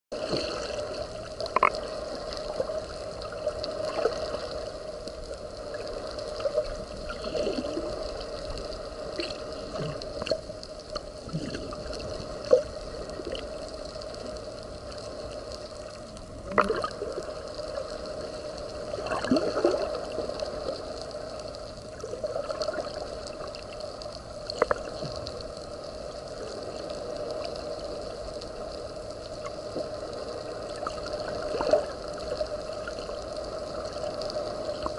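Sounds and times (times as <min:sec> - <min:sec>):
steady underwater hum: 0:00.1 - 0:34.9
scuba bubbles gurgling: 0:00.2 - 0:34.9.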